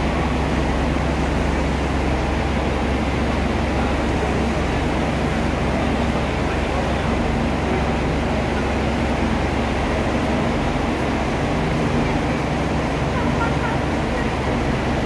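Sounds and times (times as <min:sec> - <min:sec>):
diesel railcar idling: 0:00.0 - 0:15.0.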